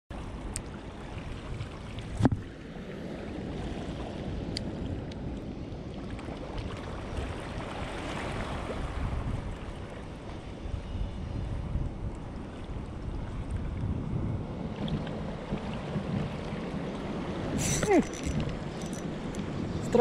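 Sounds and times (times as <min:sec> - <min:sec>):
sea water washing: 0:00.1 - 0:10.8, 0:11.6 - 0:20.0
wind buffeting microphone: 0:00.1 - 0:20.0.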